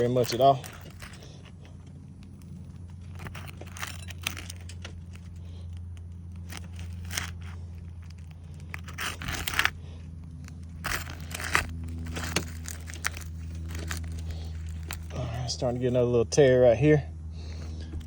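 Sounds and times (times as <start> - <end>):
shingles scraping and tearing: 0.0 - 15.9
steady low hum: 0.0 - 18.0.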